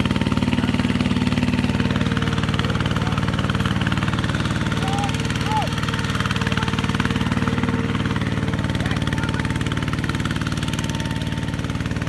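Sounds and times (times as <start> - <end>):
diesel engine chugging: 0.0 - 12.0.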